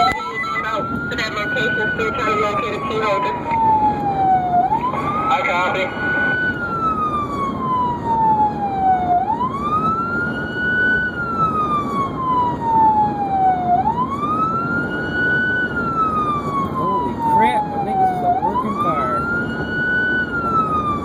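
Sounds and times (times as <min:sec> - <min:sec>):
emergency siren wailing: 0:00.0 - 0:21.0
road and engine noise: 0:00.0 - 0:21.0.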